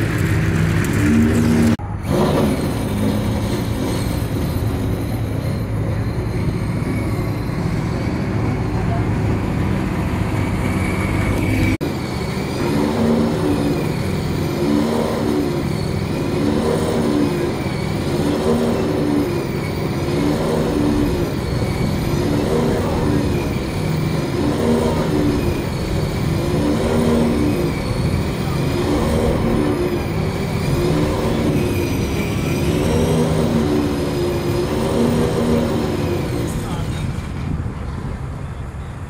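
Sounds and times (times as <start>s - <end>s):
another car engine: 0.0s - 39.0s.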